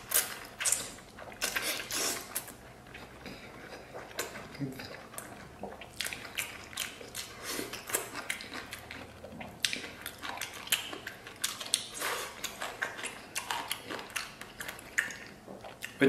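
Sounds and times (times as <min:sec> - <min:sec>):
man chewing meat: 0:00.0 - 0:16.0
wet smacks and lip clicks: 0:00.0 - 0:16.0.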